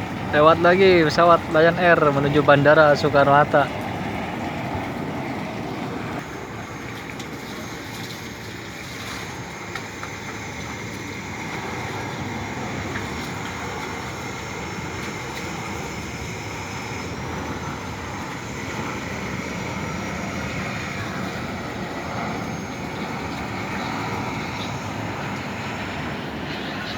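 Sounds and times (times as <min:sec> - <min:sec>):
engine rumble: 0:00.0 - 0:26.9
faint high whine: 0:00.0 - 0:26.9.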